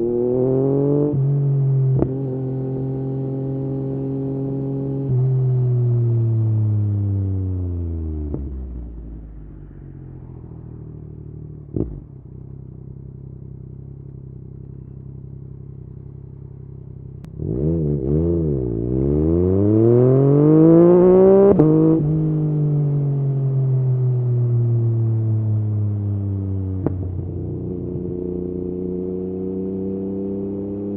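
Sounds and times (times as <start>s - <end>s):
motorcycle engine revving: 0.0s - 9.7s, 11.0s - 30.9s.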